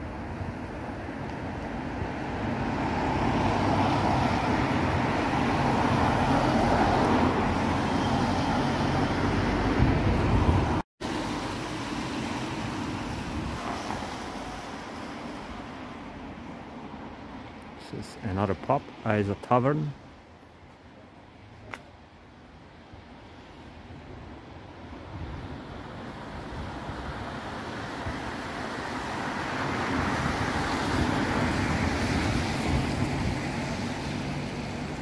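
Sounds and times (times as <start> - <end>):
wind rumbling on microphone: 0.0 - 16.2, 22.6 - 35.0
quiet street noise: 0.0 - 35.0.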